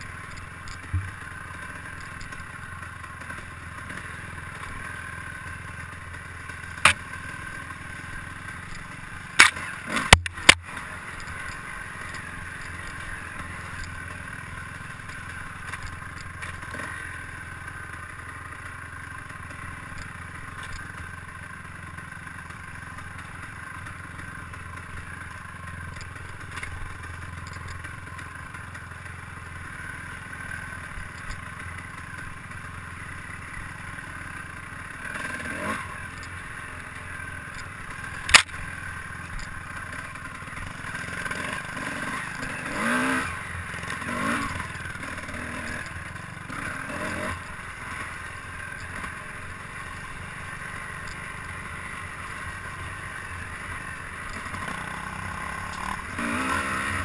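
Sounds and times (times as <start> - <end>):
vehicle running noise: 0.0 - 57.0.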